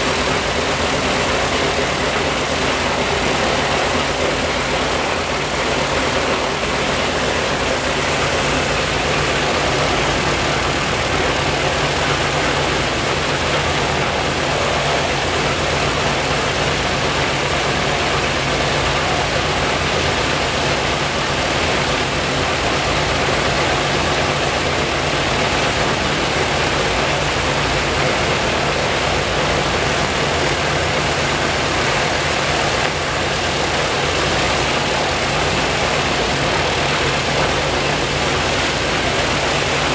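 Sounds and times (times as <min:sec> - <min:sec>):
radial aircraft engine droning: 0:00.0 - 0:39.9.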